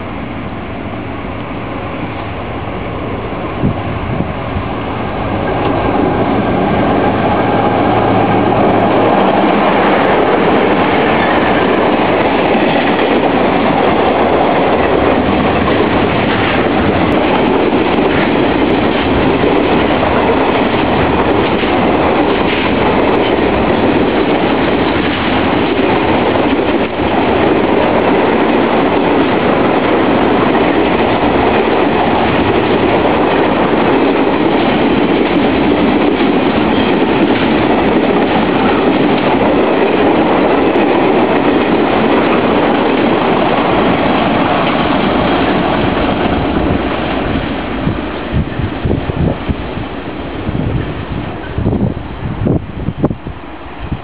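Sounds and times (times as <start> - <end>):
locomotive steady tones: 0.0 - 54.0.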